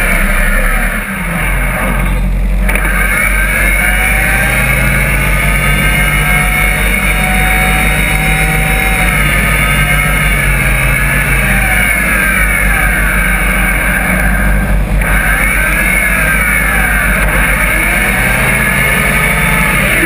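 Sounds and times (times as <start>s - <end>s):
buggy engine running: 0.0s - 20.0s.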